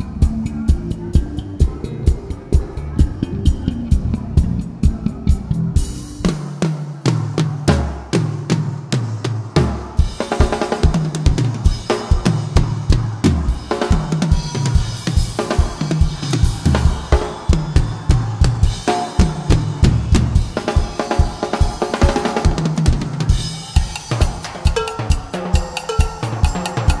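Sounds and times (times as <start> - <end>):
drum kit: 0.0 - 27.0
rock band playing funk groove: 0.0 - 27.0.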